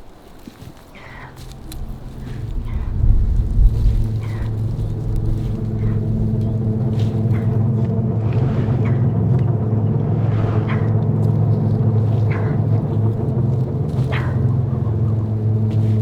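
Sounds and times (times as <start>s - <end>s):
low engine hum: 0.7s - 16.0s.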